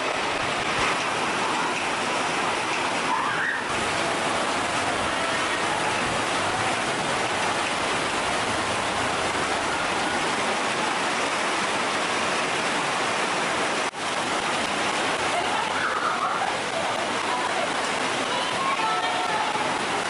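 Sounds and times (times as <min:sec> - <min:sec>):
floodwater rushing: 0:00.0 - 0:20.0
heavy rain: 0:00.0 - 0:20.0.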